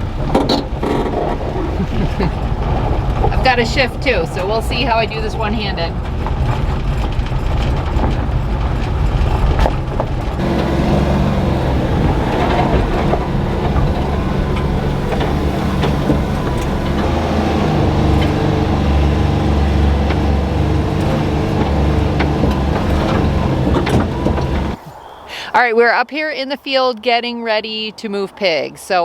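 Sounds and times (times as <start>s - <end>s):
knocks and rattles: 0.0s - 24.8s
small truck engine running: 0.0s - 24.8s.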